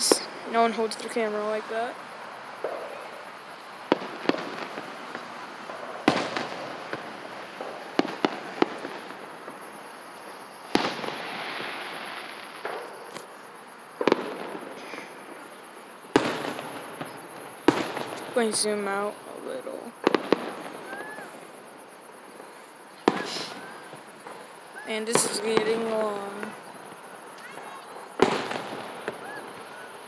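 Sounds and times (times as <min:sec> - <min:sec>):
small firework pops: 0:00.0 - 0:00.3, 0:02.6 - 0:30.0
fireworks bangs with rumbling tail: 0:02.5 - 0:30.0.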